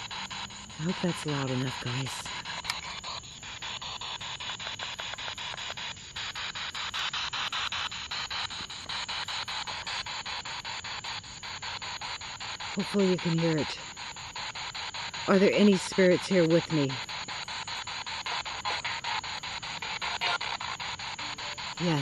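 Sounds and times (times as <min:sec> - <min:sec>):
chopped radio static: 0:00.0 - 0:22.0.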